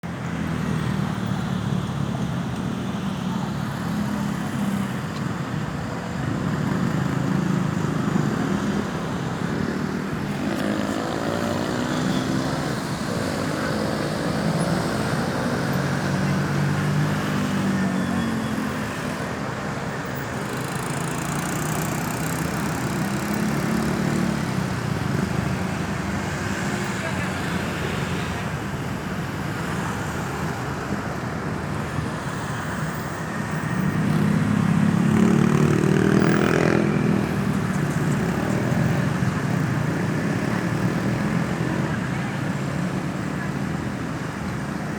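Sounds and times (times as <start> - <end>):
road traffic: 0.0 - 44.9.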